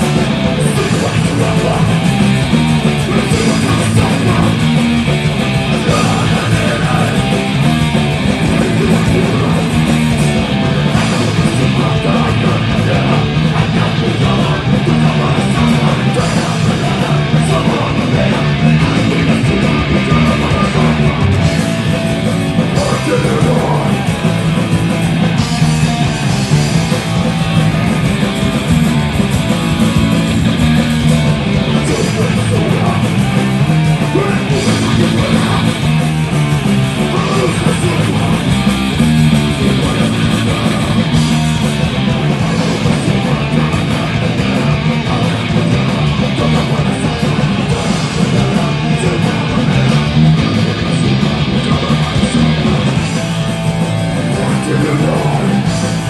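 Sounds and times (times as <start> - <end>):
person singing: 0.0 - 21.9, 22.6 - 24.2, 31.0 - 53.2, 54.2 - 56.0
punk rock band playing: 0.0 - 56.0.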